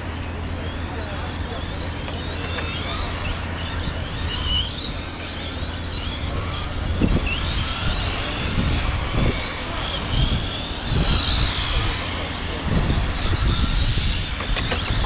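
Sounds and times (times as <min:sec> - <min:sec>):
electric motors and gears whining: 0:00.0 - 0:15.0.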